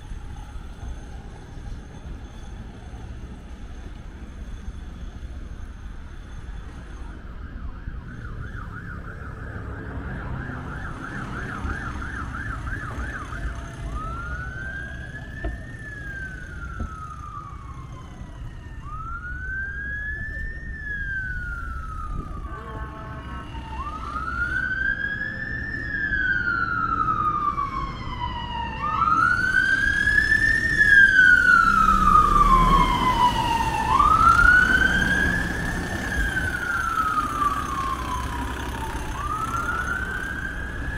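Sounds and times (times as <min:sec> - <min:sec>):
fire engine siren: 0:00.0 - 0:40.9
low rumble of city traffic: 0:00.0 - 0:40.9.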